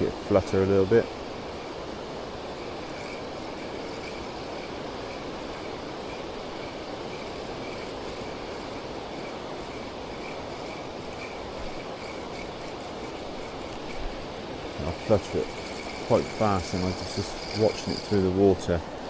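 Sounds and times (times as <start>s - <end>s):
water pouring over a weir: 1.6s - 18.6s.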